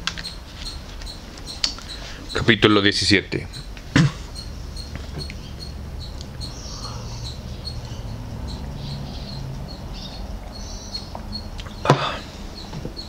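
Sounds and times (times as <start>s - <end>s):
small animal chirping: 0.0s - 13.0s.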